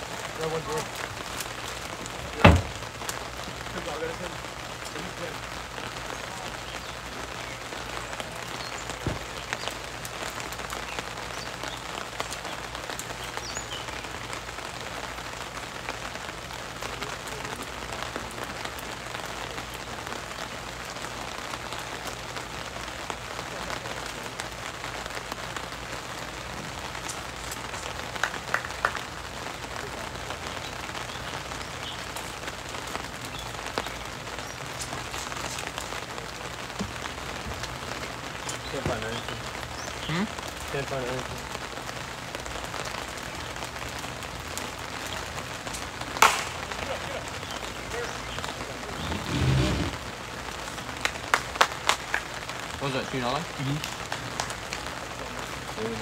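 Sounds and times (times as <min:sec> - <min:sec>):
sharp rain taps: 0:00.0 - 0:56.0
steady rain hiss: 0:00.0 - 0:56.0.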